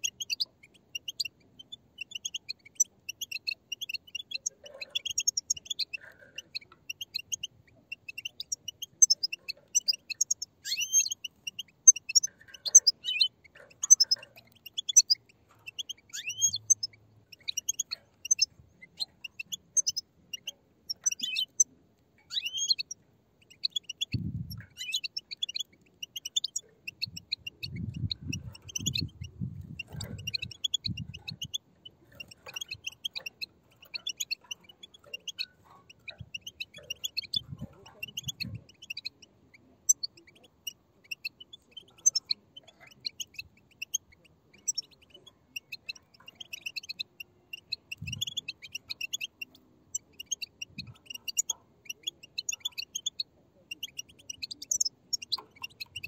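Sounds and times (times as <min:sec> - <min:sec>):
bird chicks chirping: 0:00.0 - 0:56.0.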